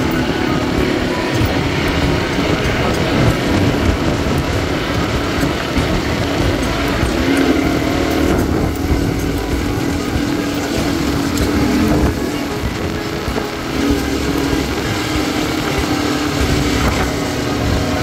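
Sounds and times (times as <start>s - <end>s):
buggy engine running: 0.0s - 18.0s
rumble of driving on dirt: 0.0s - 18.0s.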